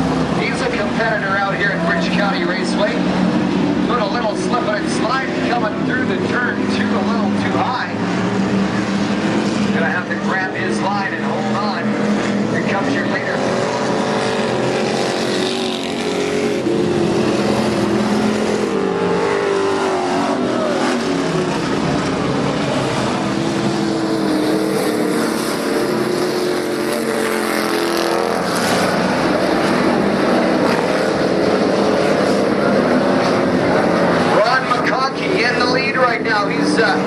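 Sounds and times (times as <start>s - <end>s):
race car engines passing by: 0.0s - 37.0s.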